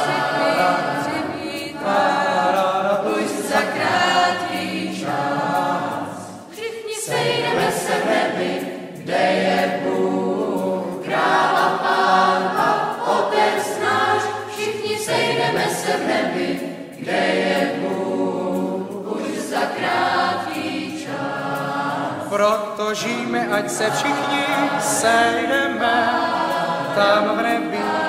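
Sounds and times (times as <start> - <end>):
backing music: 0.0 - 28.0
choir singing: 0.0 - 28.0.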